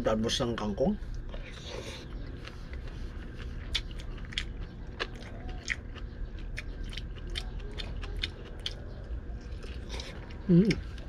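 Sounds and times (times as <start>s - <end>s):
person chewing and smacking: 1.1s - 11.0s.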